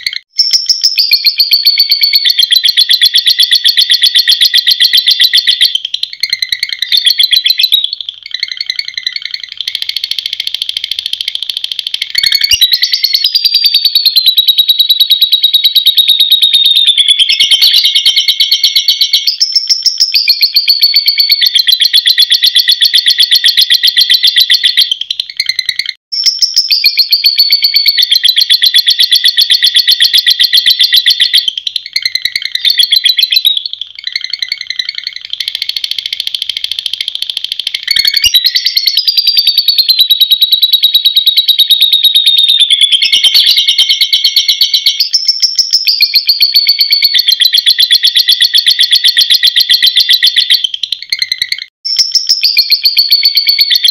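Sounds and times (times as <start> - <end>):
lovebird chattering trill: 0.0 - 53.9.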